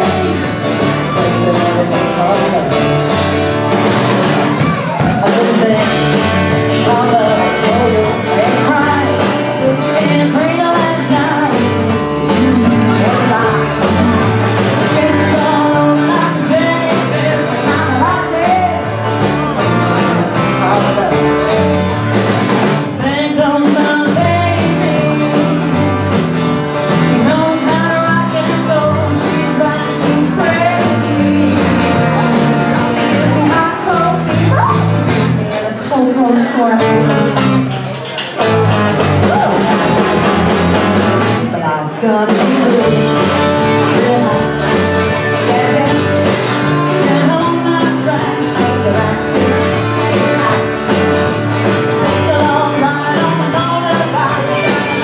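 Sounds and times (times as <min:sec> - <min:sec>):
woman singing: 0:00.0 - 0:03.0, 0:04.5 - 0:21.9, 0:22.8 - 0:26.1, 0:26.9 - 0:37.6, 0:39.1 - 0:55.0
live band playing: 0:00.0 - 0:55.0.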